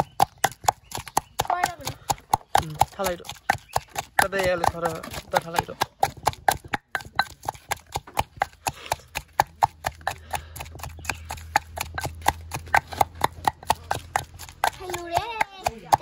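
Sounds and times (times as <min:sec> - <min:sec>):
pestle pounding in clay mortar: 0:00.0 - 0:16.0.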